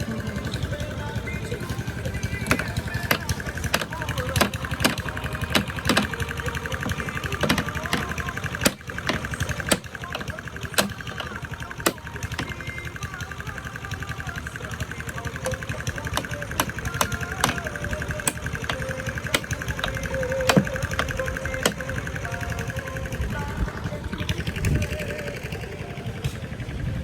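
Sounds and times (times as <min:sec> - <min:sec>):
engine running with fast pulse: 0:00.0 - 0:27.0
sharp knocks and clanks: 0:00.2 - 0:23.0.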